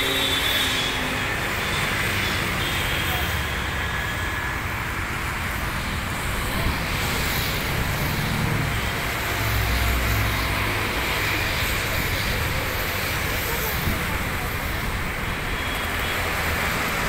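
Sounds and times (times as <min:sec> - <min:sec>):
distant jet engine: 0:00.0 - 0:17.0
traffic noise: 0:00.0 - 0:17.0.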